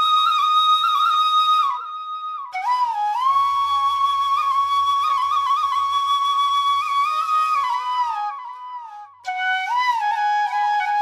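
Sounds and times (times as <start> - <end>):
solo flute melody: 0.0 - 11.0.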